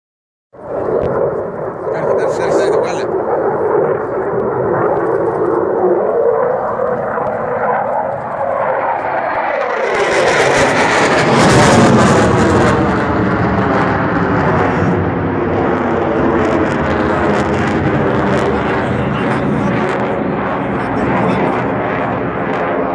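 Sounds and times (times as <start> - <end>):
jet flying over: 0.6 - 22.9.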